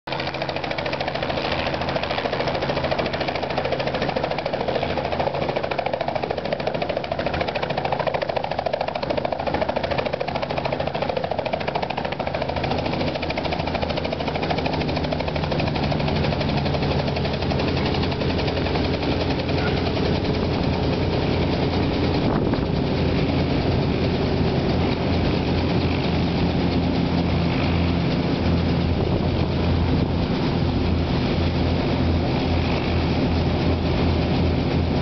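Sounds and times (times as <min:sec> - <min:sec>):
helicopter engine running: 0:00.1 - 0:35.0
helicopter rotor blades chopping: 0:00.1 - 0:35.0.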